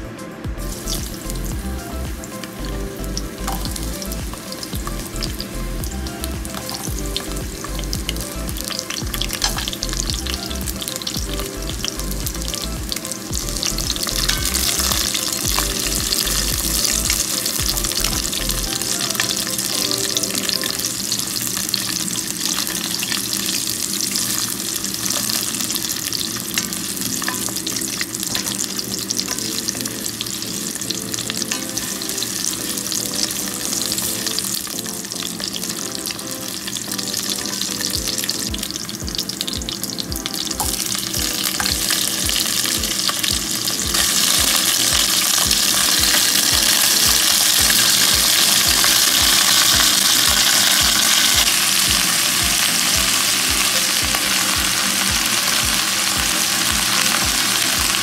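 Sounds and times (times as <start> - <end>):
aromatics sizzling in hot oil: 0.0 - 58.0.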